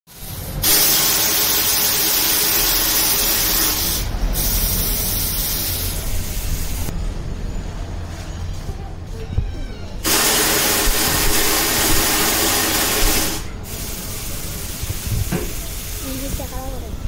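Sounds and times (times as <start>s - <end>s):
compressed air hissing from hose: 0.1s - 6.9s, 10.0s - 17.0s.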